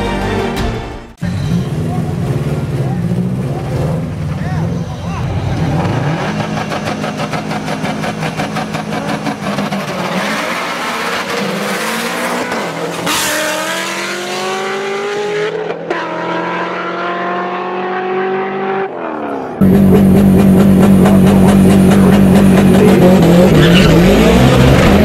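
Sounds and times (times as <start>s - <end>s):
car engine revving and accelerating: 1.3s - 25.0s.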